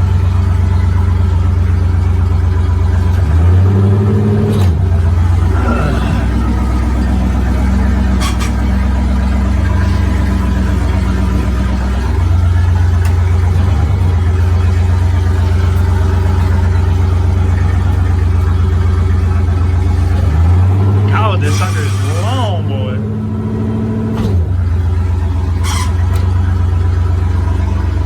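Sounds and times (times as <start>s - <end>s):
pickup truck engine running: 0.0s - 28.0s.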